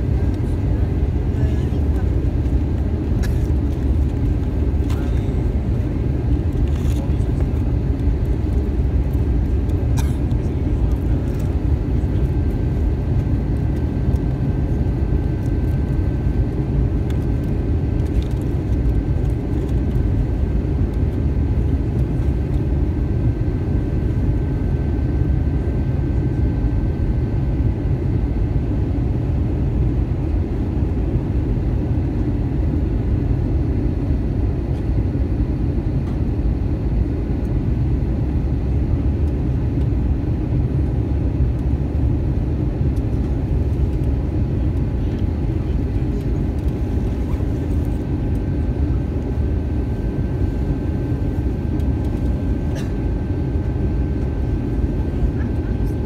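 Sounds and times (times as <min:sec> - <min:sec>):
aircraft cabin rumble: 0:00.0 - 0:56.0.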